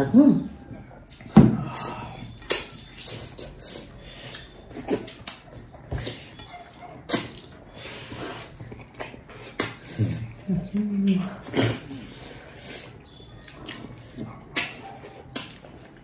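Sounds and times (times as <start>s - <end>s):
chewing and slurping: 0.7s - 16.0s.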